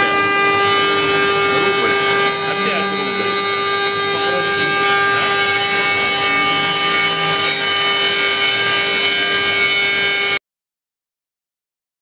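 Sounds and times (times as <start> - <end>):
bit rasping into wood: 0.0 - 10.4
router spindle whine: 0.0 - 10.4.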